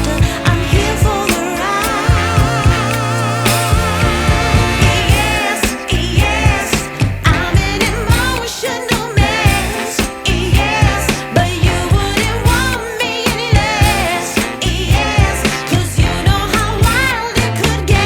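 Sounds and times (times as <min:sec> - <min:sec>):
song with drum beat: 0:00.0 - 0:18.0.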